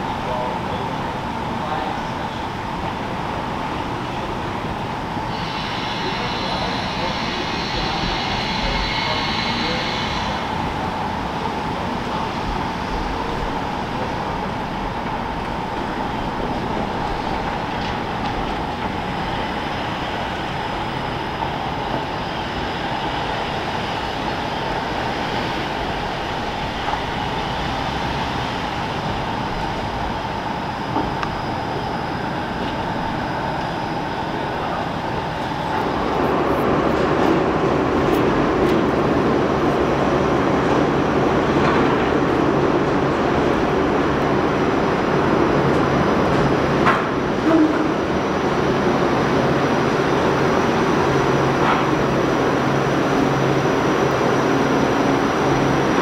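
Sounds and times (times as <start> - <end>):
streetcar running on track: 0.0 - 56.0
traffic: 0.0 - 56.0.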